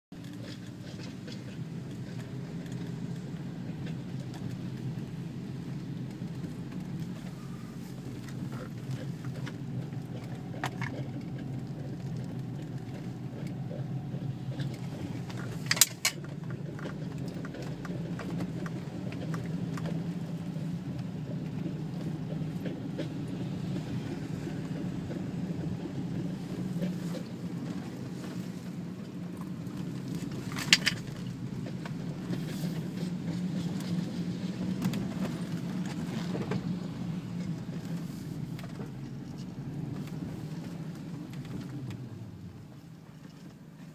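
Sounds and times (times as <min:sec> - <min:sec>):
tyre road noise: 0:00.1 - 0:43.9.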